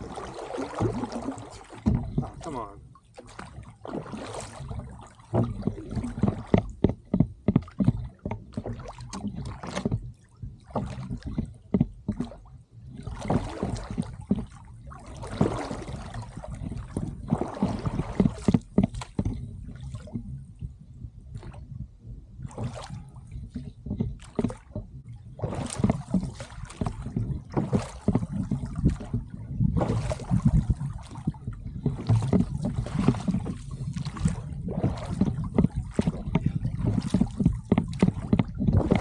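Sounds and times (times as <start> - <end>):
oars knocking in oarlocks: 0.0 - 20.8, 22.4 - 39.0
water swishing off oars: 0.0 - 39.0.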